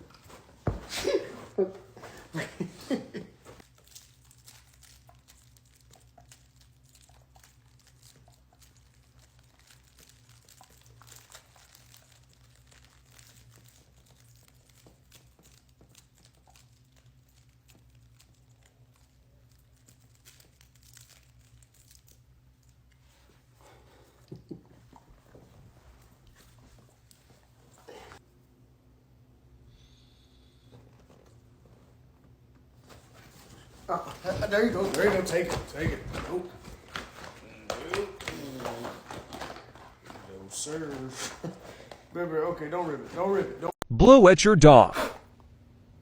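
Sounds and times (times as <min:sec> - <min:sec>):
faint crinkling: 0:00.0 - 0:24.2, 0:30.7 - 0:43.7
low room hum: 0:00.0 - 0:46.0.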